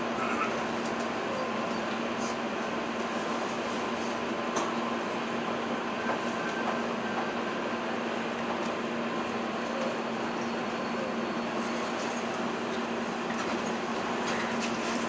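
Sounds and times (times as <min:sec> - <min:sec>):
electric train running hum: 0:00.0 - 0:15.0.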